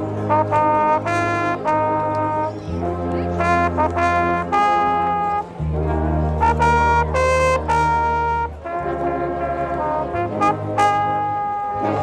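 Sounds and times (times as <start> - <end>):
marching band brass playing: 0.0 - 12.0.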